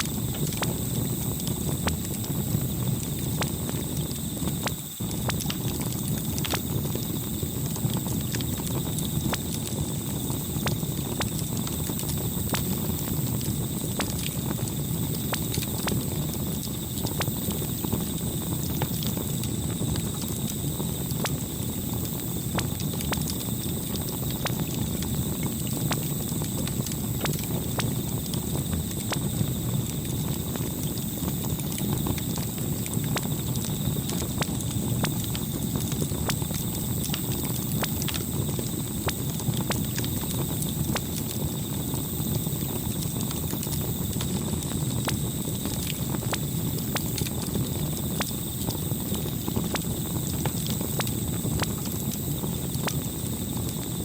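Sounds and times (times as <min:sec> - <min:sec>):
low rush of flames: 0:00.0 - 0:54.0.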